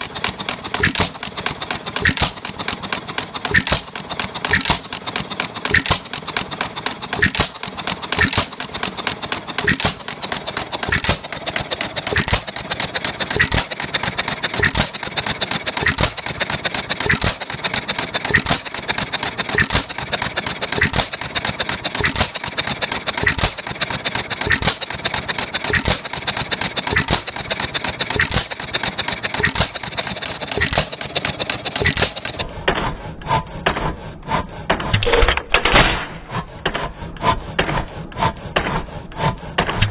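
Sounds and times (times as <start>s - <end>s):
light engine clicks: 0.0s - 32.9s
stationary gas engine banging: 0.0s - 39.9s.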